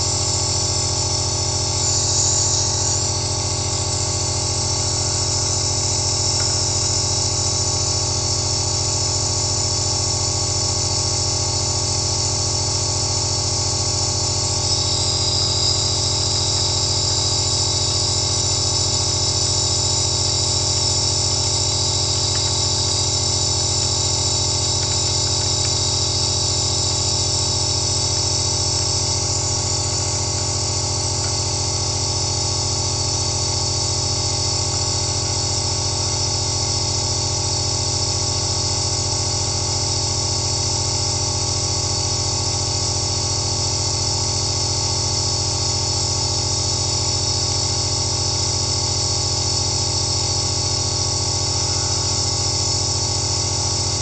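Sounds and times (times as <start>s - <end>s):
nebulizer motor hum: 0.0s - 54.0s.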